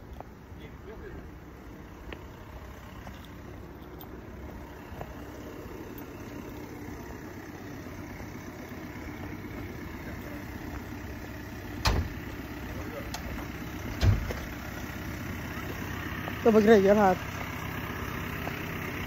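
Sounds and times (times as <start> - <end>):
vehicle rumble from inside: 0.0 - 19.0.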